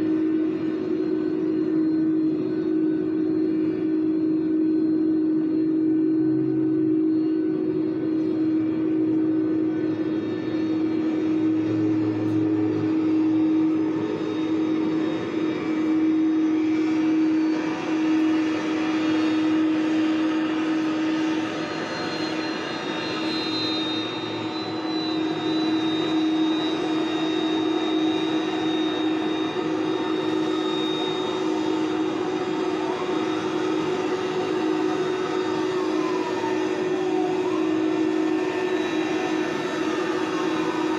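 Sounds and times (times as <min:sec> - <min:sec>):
high jet whine: 0:00.0 - 0:40.9
jet engines droning: 0:00.0 - 0:40.9.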